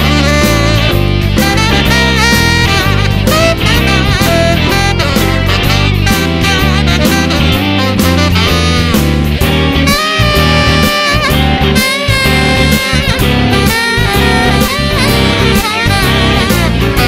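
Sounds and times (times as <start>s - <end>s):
jazz music with saxophone: 0.0s - 17.0s.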